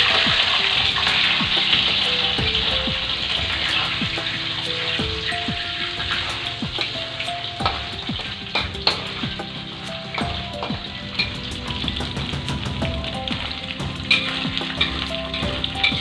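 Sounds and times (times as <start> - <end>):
background music: 0.0 - 16.0
chicken sizzling in hot oil: 0.0 - 16.0.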